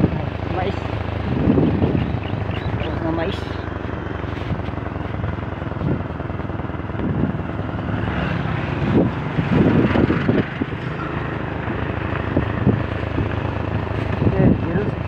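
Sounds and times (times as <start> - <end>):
road and wind noise: 0.0 - 15.0
small motorcycle engine: 0.0 - 15.0.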